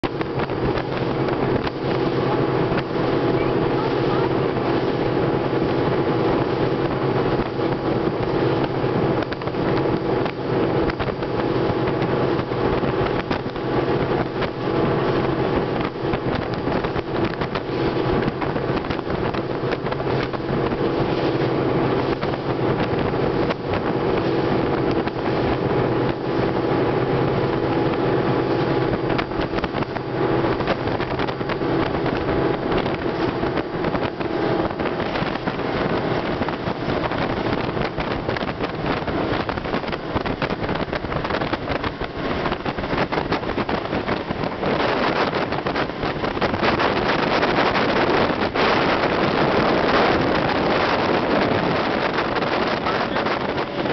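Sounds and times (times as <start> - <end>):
motorboat engine droning: 0.0 - 53.9
wind buffeting microphone: 0.0 - 53.9.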